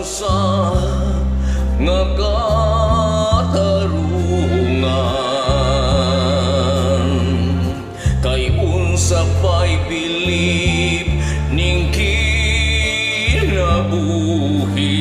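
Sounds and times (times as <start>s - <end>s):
karaoke backing track: 0.0s - 15.0s
man singing a ballad: 0.0s - 15.0s.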